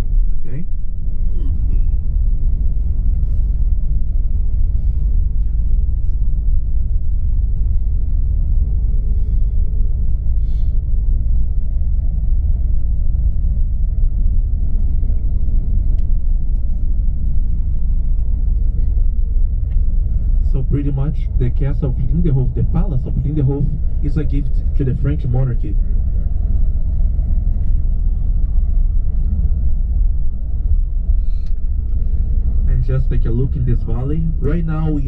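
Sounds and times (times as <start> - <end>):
coach engine and tyre noise: 0.0 - 35.0.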